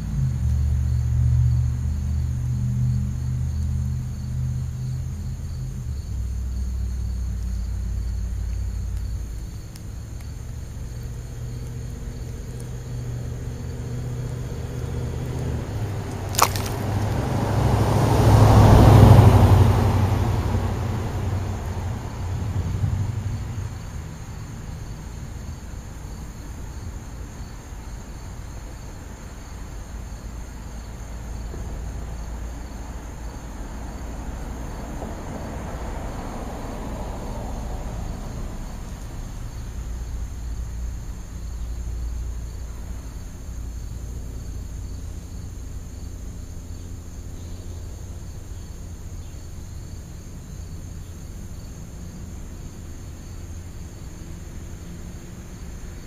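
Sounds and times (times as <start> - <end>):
crickets chirring: 0.0 - 56.0
low outdoor rumble: 0.0 - 56.0.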